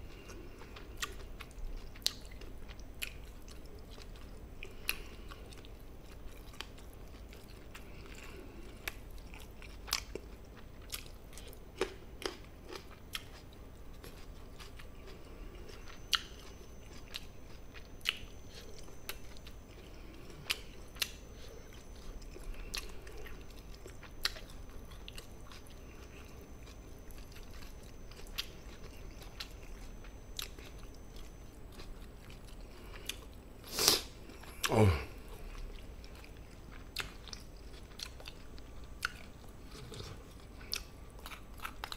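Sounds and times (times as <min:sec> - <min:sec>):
close chewing: 0:00.0 - 0:41.9.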